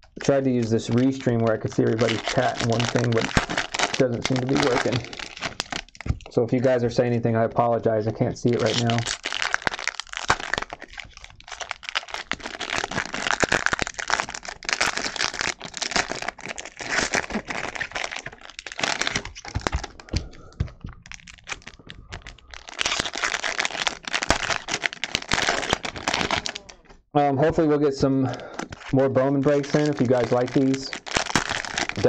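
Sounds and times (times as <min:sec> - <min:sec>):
foil wrappers crinkling: 0:00.2 - 0:06.3, 0:08.4 - 0:26.9, 0:28.2 - 0:32.0.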